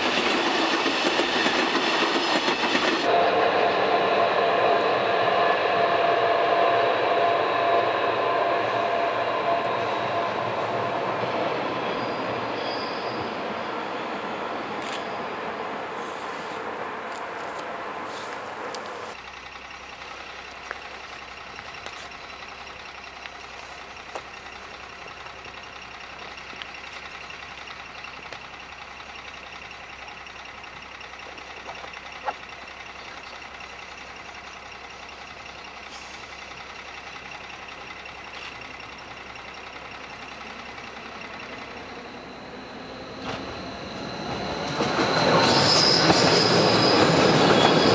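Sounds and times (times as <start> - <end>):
train running: 0.0 - 47.9.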